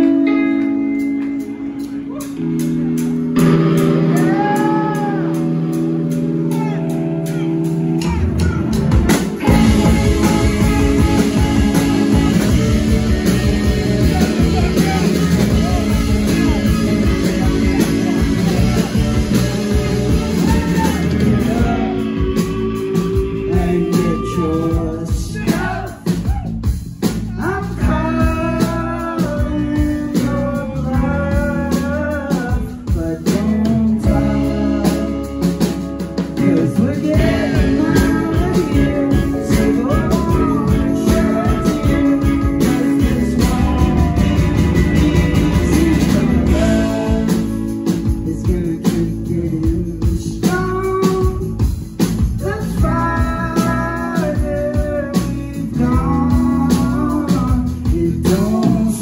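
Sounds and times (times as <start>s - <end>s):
rock band playing: 0.0s - 59.0s
person singing lead vocal: 3.4s - 26.6s, 27.2s - 59.0s.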